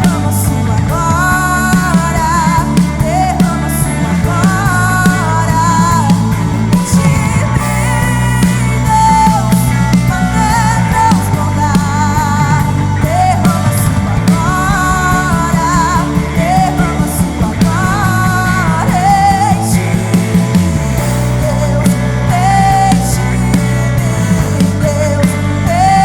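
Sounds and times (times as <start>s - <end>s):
woman singing: 0.0s - 26.0s
worship band playing: 0.0s - 26.0s.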